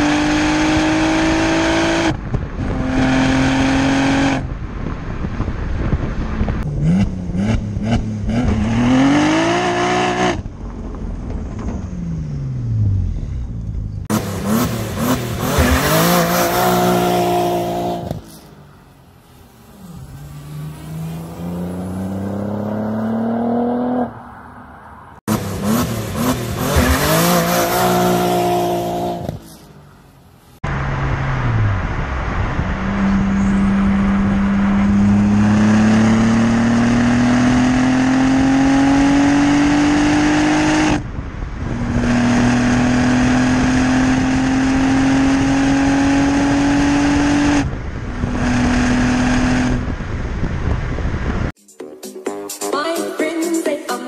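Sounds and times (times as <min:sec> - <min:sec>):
car engine accelerating: 0:00.0 - 0:29.6, 0:30.6 - 0:51.6.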